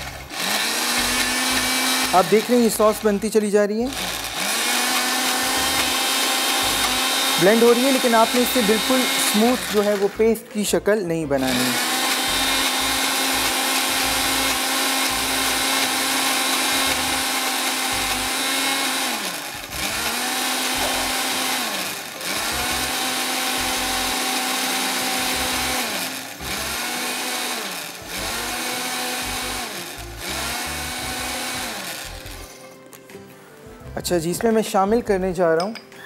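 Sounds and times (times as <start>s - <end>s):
electric blender running: 0.0s - 10.5s, 11.4s - 32.5s.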